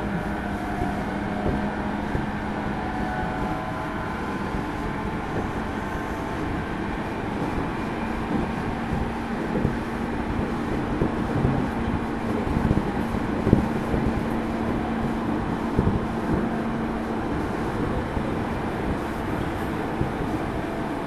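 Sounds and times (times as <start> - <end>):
low motor hum: 0.0 - 21.0
train wheels rumbling on rail: 0.0 - 21.0.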